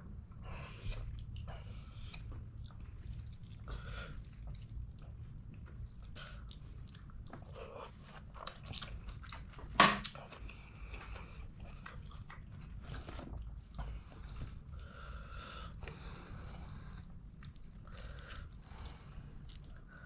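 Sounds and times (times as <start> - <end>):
mouth chewing: 0.4 - 20.0.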